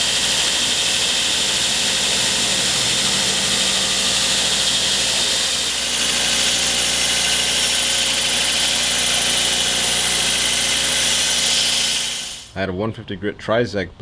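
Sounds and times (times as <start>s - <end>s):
belt grinder grinding steel: 0.0s - 12.6s
motor hum: 0.0s - 12.6s.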